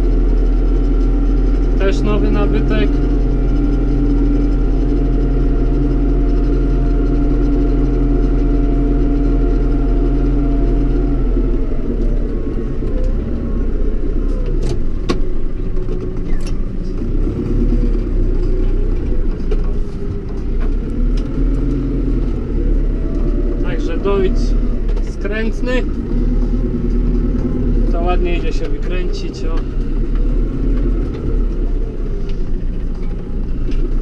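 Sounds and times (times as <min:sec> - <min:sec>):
tractor engine drone: 0:00.0 - 0:34.0.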